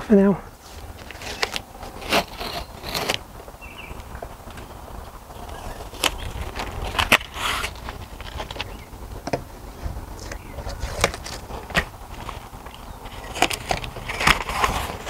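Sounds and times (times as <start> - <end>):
low steady rumble: 0.0 - 15.0
plastic scraping: 0.6 - 15.0.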